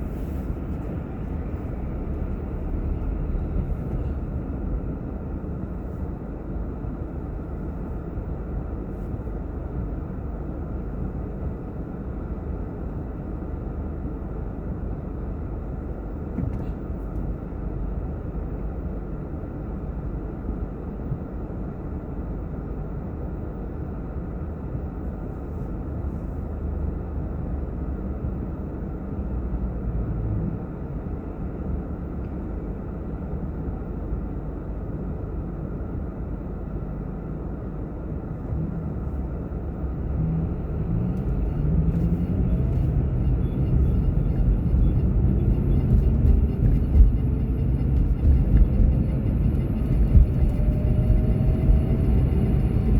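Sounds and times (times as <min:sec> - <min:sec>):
car road and engine rumble: 0:00.0 - 0:52.9.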